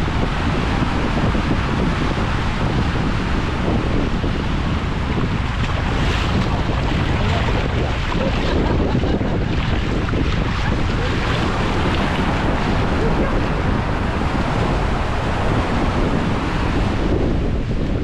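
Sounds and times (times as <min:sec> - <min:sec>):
surf breaking on beach: 0:00.0 - 0:18.0
wind buffeting microphone: 0:00.0 - 0:18.0.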